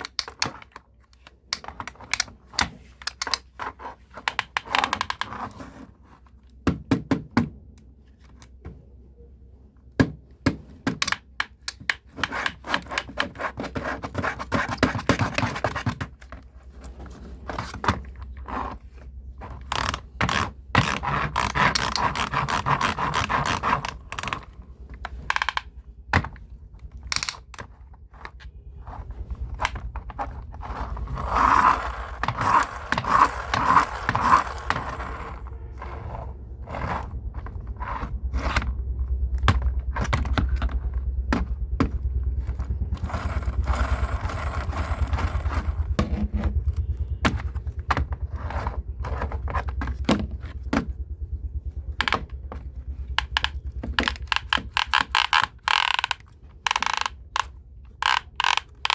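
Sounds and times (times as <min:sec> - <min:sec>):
plastic toy clicking and scraping: 0:00.0 - 0:06.6, 0:10.6 - 0:50.9, 0:51.7 - 0:58.9.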